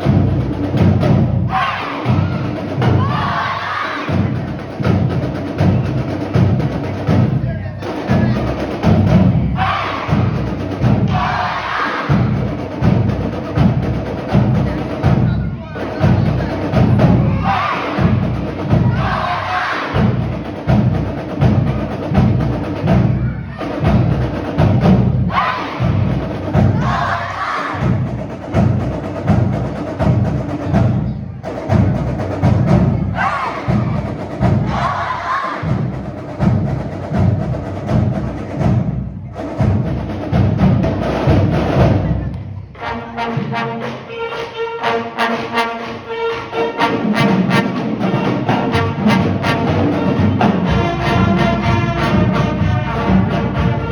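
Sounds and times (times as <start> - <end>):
steady drum beat: 0.0 - 44.4, 45.0 - 53.9
marching band playing: 0.0 - 53.9.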